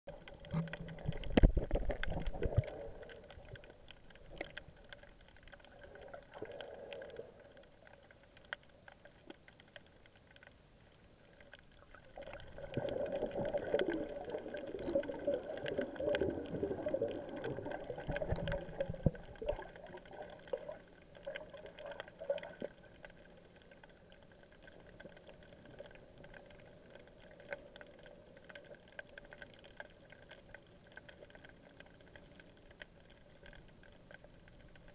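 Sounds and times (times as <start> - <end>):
water bubbling and churning: 0.1 - 9.8, 11.3 - 32.5
faint clicks: 0.1 - 34.9
muffled underwater sound: 0.1 - 34.9.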